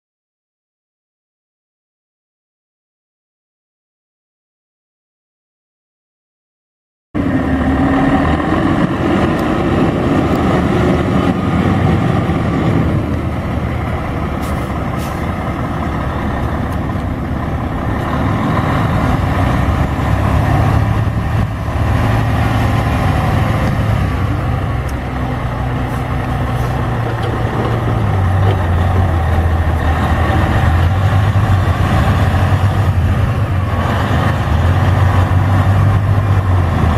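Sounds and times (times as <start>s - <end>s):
diesel truck engine running: 7.2s - 36.9s.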